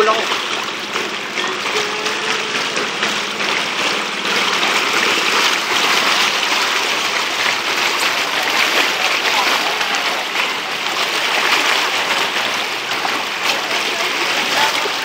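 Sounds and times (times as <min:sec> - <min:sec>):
floodwater splashing and rushing: 0:00.0 - 0:15.0.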